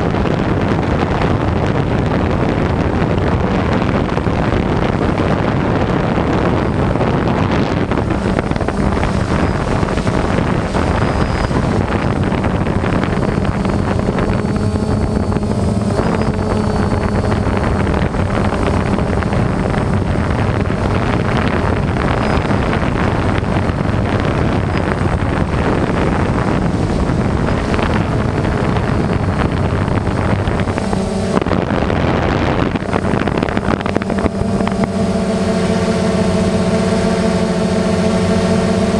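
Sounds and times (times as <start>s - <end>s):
electric motors and propellers humming: 0.0s - 38.9s
wind rush on microphone: 0.0s - 38.9s.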